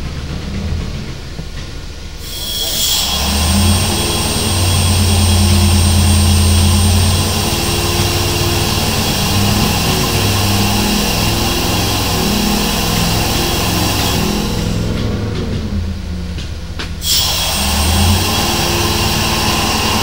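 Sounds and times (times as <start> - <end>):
steam engine low drone: 0.0 - 20.0
steam hissing: 0.0 - 20.0.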